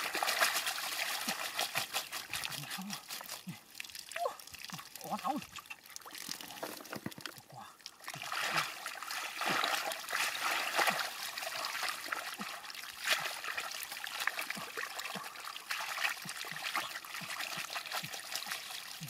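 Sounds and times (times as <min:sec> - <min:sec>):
mud and water squelching: 0:00.0 - 0:19.0.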